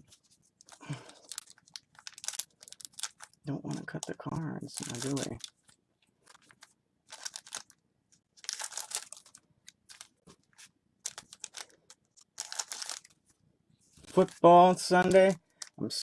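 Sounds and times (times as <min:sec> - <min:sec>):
foil wrappers crinkling: 0:00.6 - 0:07.8, 0:08.4 - 0:13.2, 0:14.0 - 0:15.8.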